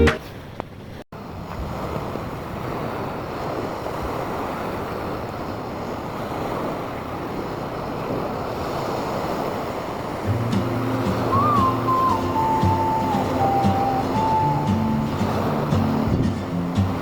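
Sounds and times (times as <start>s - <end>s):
wind: 0.0s - 17.0s
waves washing onto sand: 1.2s - 17.0s.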